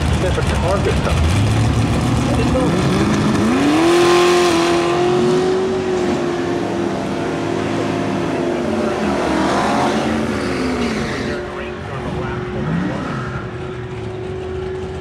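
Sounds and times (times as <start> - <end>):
pickup truck engine revving: 0.0 - 15.0.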